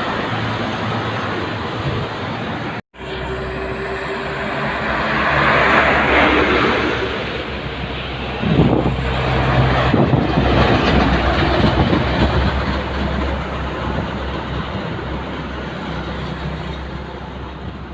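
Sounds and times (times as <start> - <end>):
diesel truck engine droning: 0.0 - 17.9
tyre and road noise: 0.0 - 17.9.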